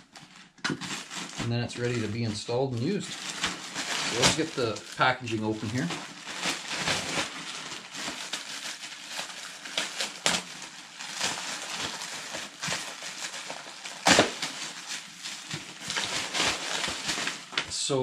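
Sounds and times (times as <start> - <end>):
loud sharp plastic crackle: 0.0 - 18.0
plastic packaging crinkling: 0.0 - 18.0.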